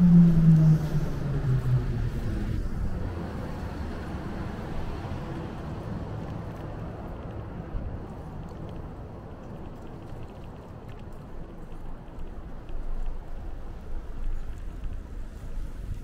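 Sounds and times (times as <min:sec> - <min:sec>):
traffic rumble: 0:00.0 - 0:16.0
vehicle engine hum: 0:00.0 - 0:16.0.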